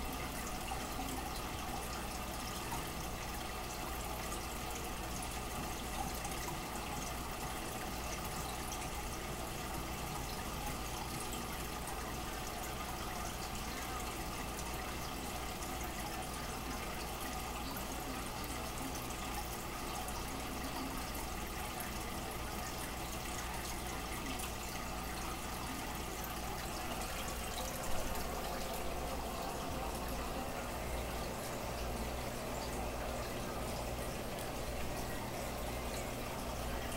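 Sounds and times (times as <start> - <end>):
low pump hum: 0.0 - 36.9
water trickling and bubbling: 0.0 - 36.9.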